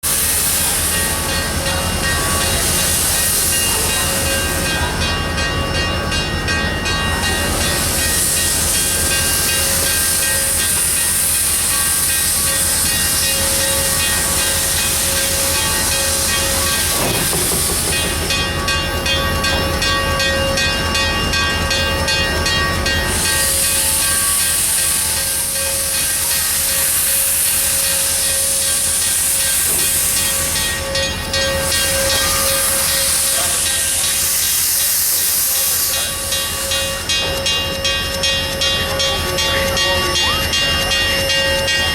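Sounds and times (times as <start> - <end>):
steam locomotive hissing steam: 0.0 - 41.9.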